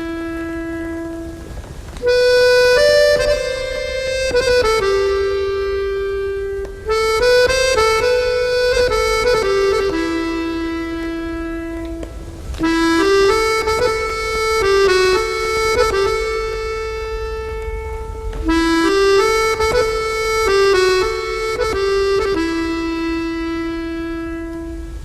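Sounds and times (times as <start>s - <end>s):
accordion-like slow melody: 0.0s - 25.0s.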